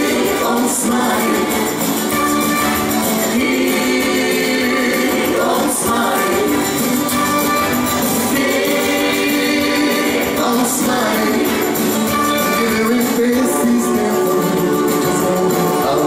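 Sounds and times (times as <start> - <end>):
person singing: 0.0 - 7.0, 8.0 - 16.0
live band playing: 0.0 - 16.0.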